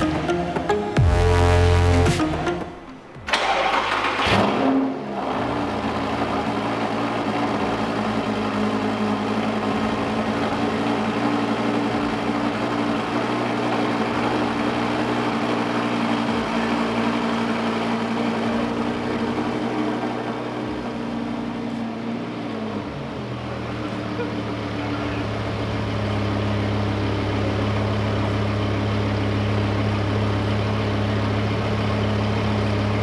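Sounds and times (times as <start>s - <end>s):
sports car engine idling: 4.9s - 33.0s.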